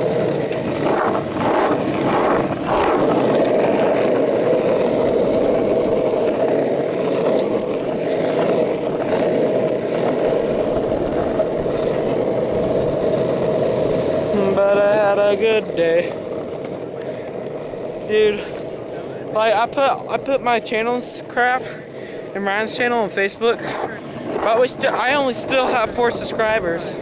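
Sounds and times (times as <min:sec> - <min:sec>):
longboard wheels rolling on asphalt: 0:00.0 - 0:27.0.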